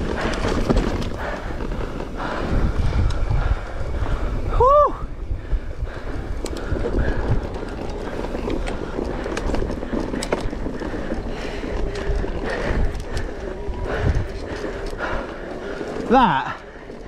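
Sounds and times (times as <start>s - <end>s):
tyres over dirt and rock: 0.0s - 4.5s, 5.2s - 17.0s
wind noise on microphone: 0.0s - 15.8s
bike knocking and rattling: 0.0s - 17.0s.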